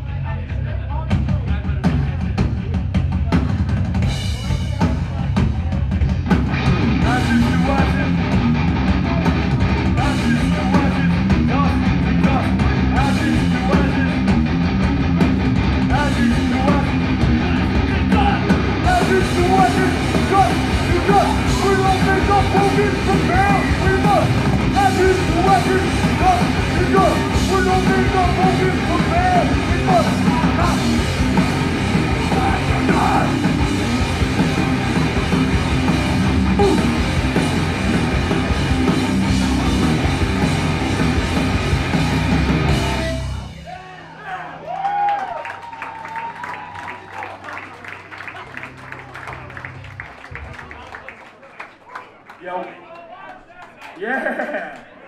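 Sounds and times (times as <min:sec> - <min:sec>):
heavy rock band playing: 0:00.0 - 0:44.2.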